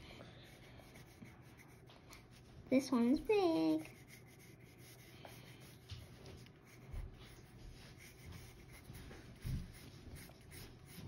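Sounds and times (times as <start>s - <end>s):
pencil scratching on paper: 0.4s - 2.4s, 3.0s - 11.0s.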